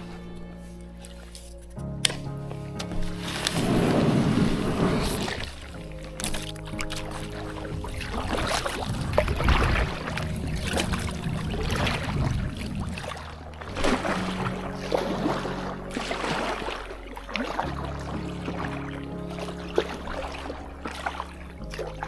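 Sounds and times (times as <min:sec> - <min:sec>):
paddle splashing in water: 0:00.0 - 0:22.0
water dripping and trickling: 0:00.0 - 0:22.0.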